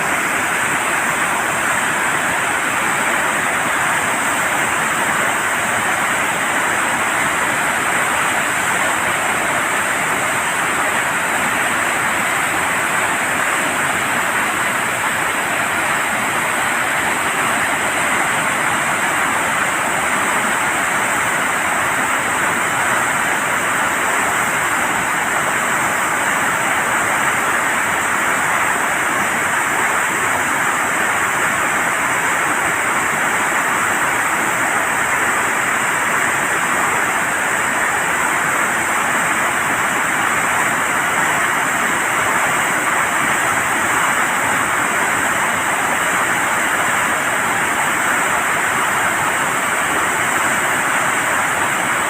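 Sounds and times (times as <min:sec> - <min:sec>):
water rushing through flood gates: 0:00.0 - 0:52.0.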